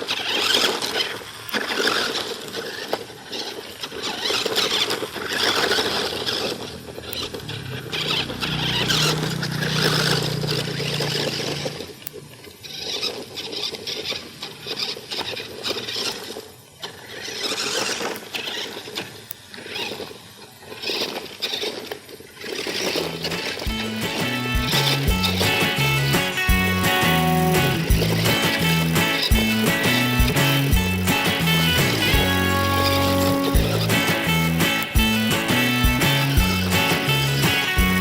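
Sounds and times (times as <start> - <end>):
toy car electric motor whining: 0.0 - 38.0.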